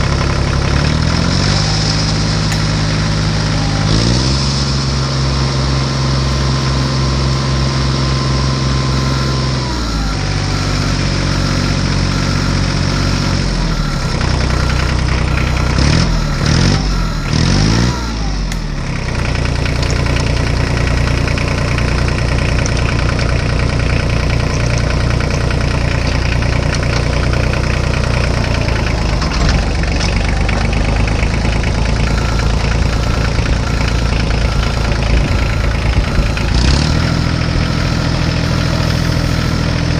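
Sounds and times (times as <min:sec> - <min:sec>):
tractor engine idling and revving: 0:00.0 - 0:39.9.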